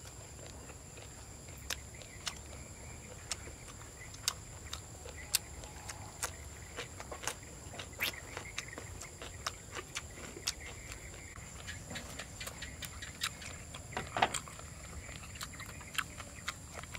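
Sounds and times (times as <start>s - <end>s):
mouth chewing clicks and smacks: 0.0s - 16.9s
night insects droning: 0.0s - 16.9s.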